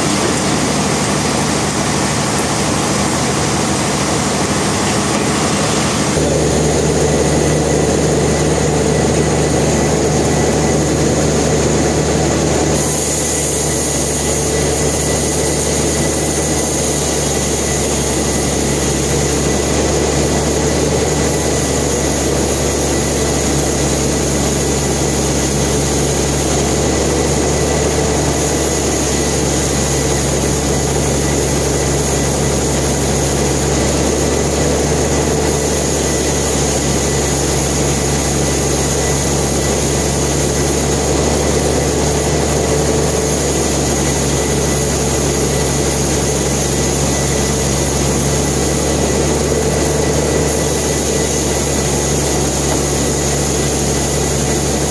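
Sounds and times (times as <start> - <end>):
sawmill machinery drone and whine: 0.0 - 54.9.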